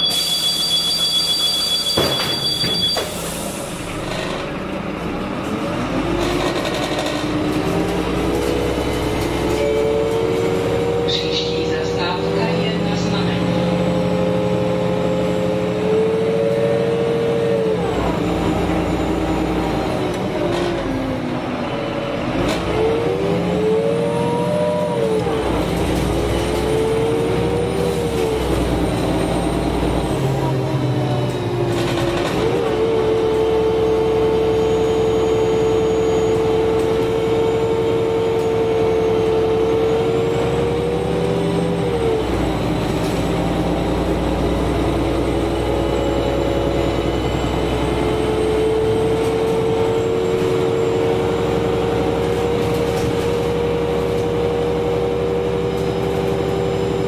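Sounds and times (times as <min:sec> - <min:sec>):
bus engine and drivetrain whine: 0:00.0 - 0:57.0.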